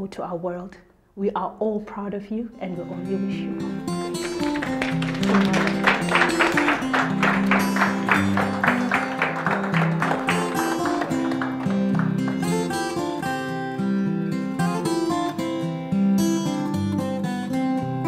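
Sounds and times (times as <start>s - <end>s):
strummed guitar music: 2.7s - 18.0s.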